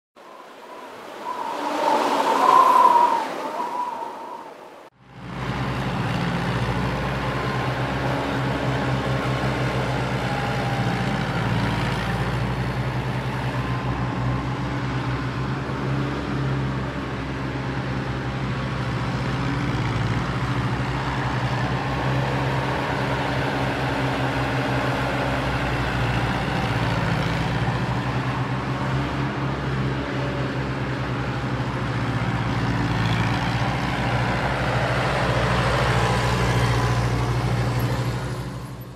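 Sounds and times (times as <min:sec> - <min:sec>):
engine humming steadily: 0:05.0 - 0:38.9.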